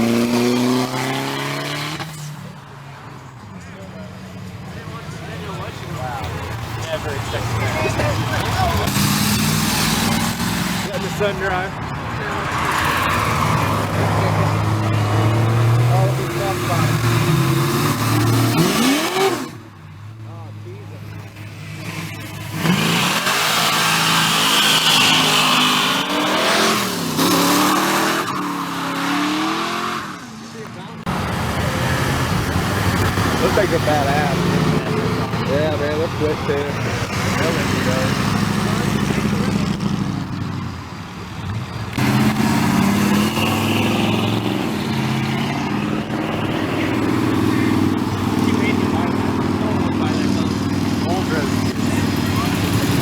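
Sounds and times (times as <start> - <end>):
car engine revving: 0.0 - 53.0
tires squealing: 0.0 - 53.0.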